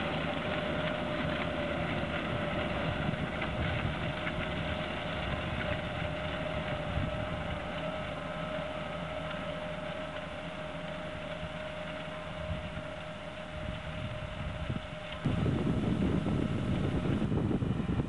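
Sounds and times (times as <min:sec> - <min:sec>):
constant whine: 0:00.0 - 0:18.0
tractor engine running: 0:00.0 - 0:18.0.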